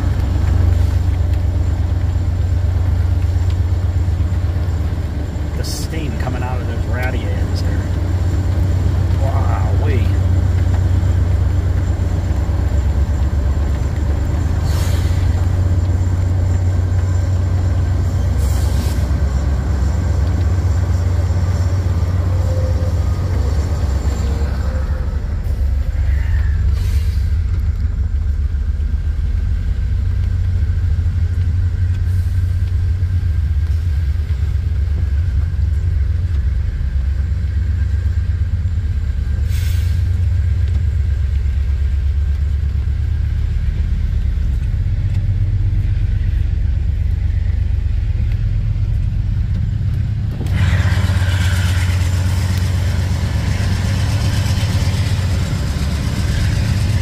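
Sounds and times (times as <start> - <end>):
freight train rumbling past: 0.0 - 57.0
hiss of heavy rain: 0.0 - 57.0.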